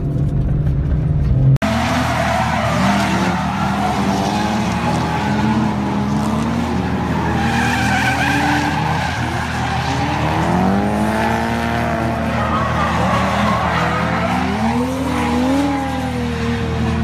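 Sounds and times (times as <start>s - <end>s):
car engines revving: 0.0s - 17.0s
tyres squealing: 1.7s - 15.8s.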